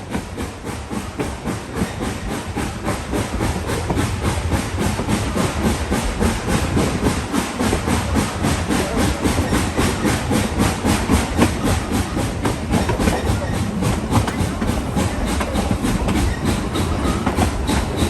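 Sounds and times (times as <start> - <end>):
steam locomotive exhaust chuffs: 0.0 - 18.0
steam hiss: 0.1 - 18.0.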